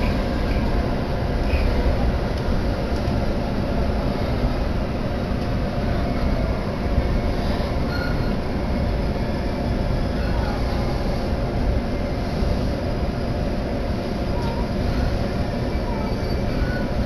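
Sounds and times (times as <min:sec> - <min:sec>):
train rumbling inside passenger car: 0:00.0 - 0:17.0.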